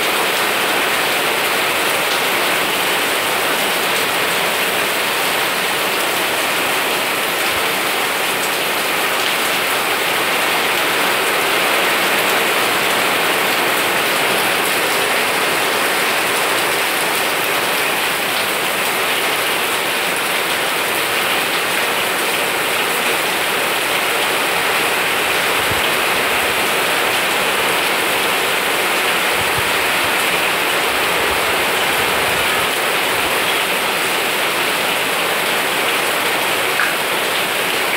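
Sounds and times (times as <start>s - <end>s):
heavy rain on foliage: 0.0s - 37.9s.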